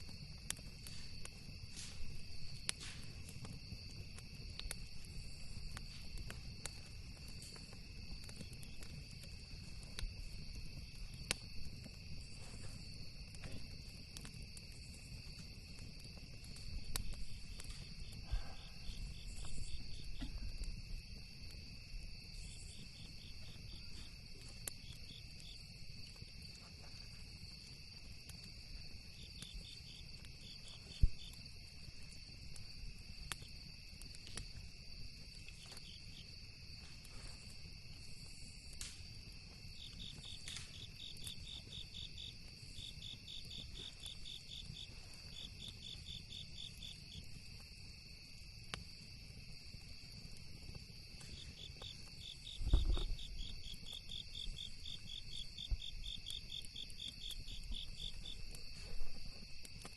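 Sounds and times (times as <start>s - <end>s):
campfire crackling and popping: 0.0s - 59.9s
insects chirping chorus: 0.0s - 59.9s.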